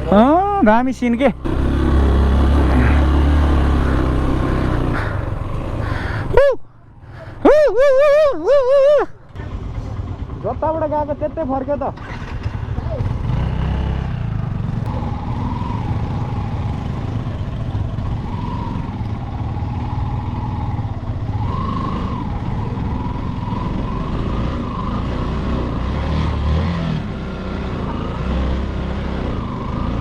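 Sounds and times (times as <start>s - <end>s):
motorcycle engine running: 0.0s - 6.4s, 8.9s - 30.0s.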